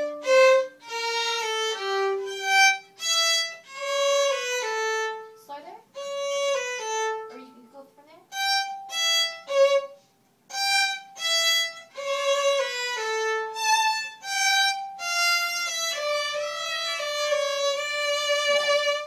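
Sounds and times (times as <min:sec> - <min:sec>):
two violins playing a tune: 0:00.0 - 0:05.4, 0:06.0 - 0:07.6, 0:08.3 - 0:19.0.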